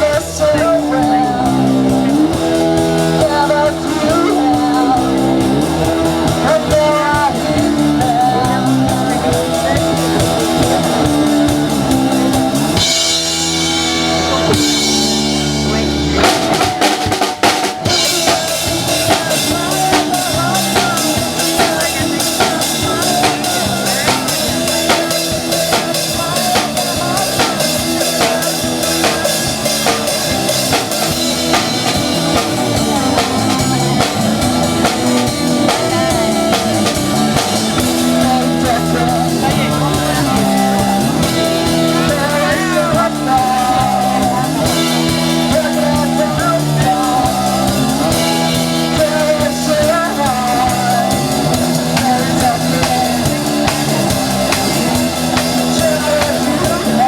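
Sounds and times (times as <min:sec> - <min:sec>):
band playing rock music: 0:00.0 - 0:57.0
bass guitar: 0:00.0 - 0:57.0
drum kit beat: 0:00.0 - 0:57.0
electric guitar: 0:00.0 - 0:57.0.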